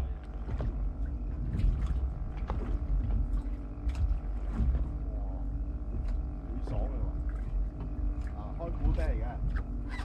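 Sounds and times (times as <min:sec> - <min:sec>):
boat engine hum: 0:00.0 - 0:10.0
wind rumbling on microphone: 0:00.0 - 0:10.0.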